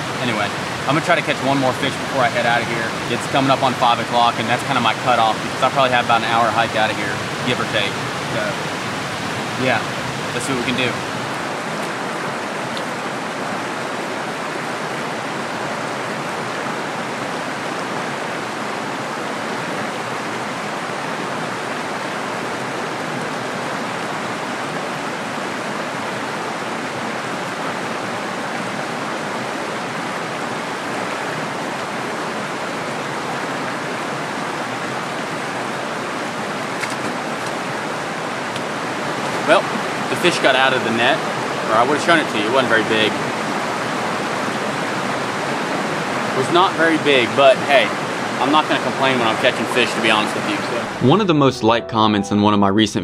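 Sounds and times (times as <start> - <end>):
creek rushing over rocks: 0.0 - 51.2.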